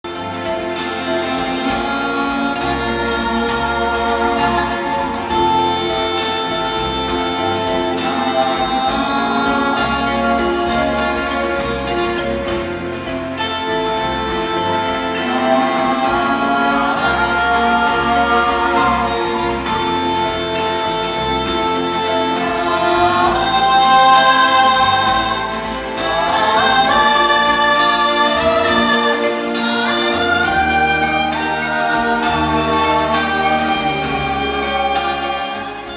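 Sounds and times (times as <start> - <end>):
orchestra playing: 0.0 - 35.9
voices singing: 0.0 - 35.9.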